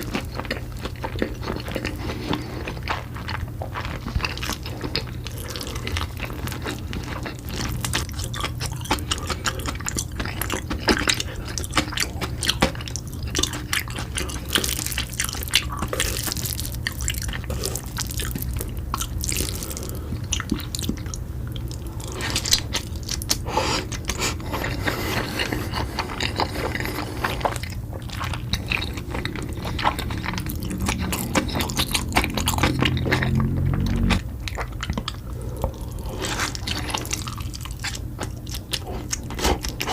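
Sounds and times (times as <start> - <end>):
low steady hum: 0.0 - 39.9
wet chewing and mouth clicks: 0.0 - 39.9.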